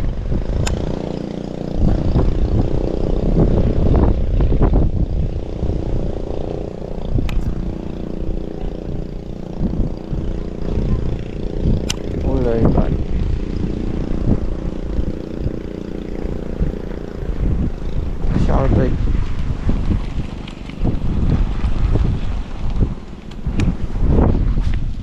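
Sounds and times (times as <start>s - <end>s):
steady low hum: 0.0s - 25.0s
wind rumbling on microphone: 0.0s - 25.0s.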